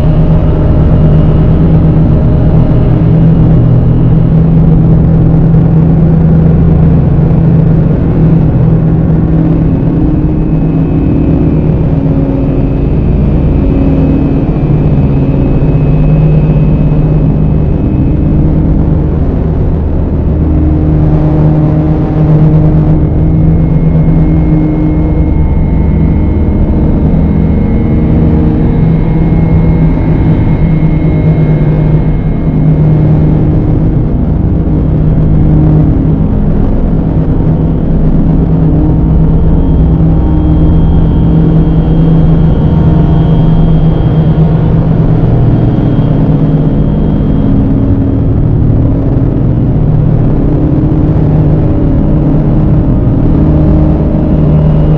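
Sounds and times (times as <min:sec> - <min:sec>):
dark ambient drone music: 0:00.0 - 0:54.9.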